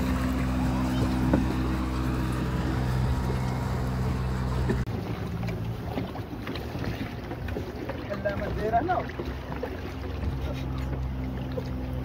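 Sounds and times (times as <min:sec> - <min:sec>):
motorboat engine droning: 0:00.0 - 0:12.0
water rushing past boat: 0:00.0 - 0:12.0.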